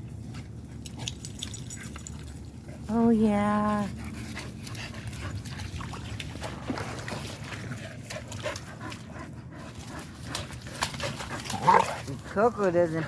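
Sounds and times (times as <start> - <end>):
dogs gnawing coconuts: 0.0 - 13.0
low steady rumble: 0.0 - 13.0.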